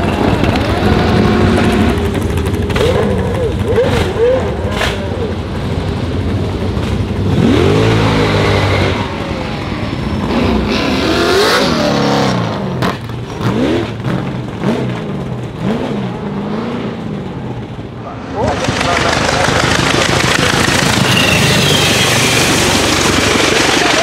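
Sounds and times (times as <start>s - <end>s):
other race car engines: 0.0s - 24.0s
race car engine revving: 0.0s - 24.0s.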